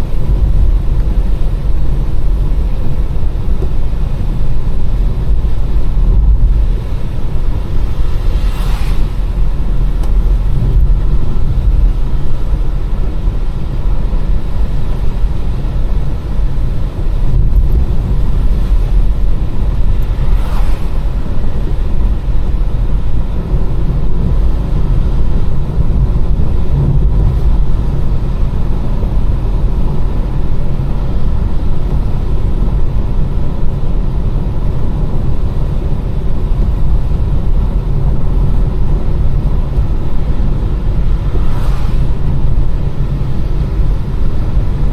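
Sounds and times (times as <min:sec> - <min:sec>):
car engine and tyre noise: 0:00.0 - 0:44.9.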